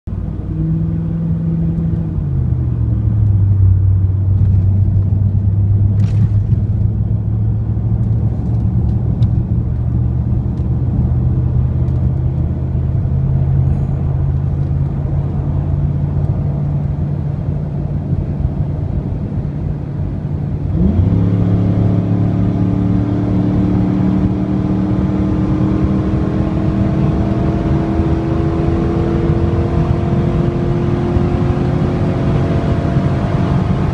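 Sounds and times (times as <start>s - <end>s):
car exhaust revving: 2.6s - 33.9s.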